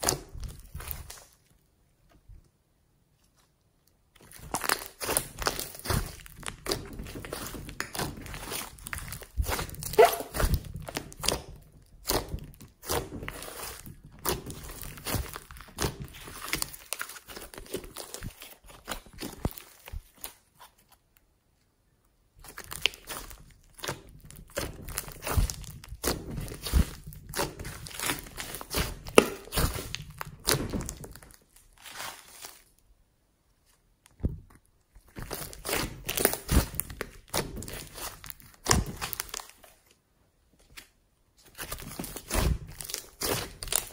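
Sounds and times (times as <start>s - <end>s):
slime clicking and crackling: 0.0s - 1.5s, 3.8s - 20.6s, 22.4s - 32.7s, 34.0s - 39.9s, 41.5s - 43.9s.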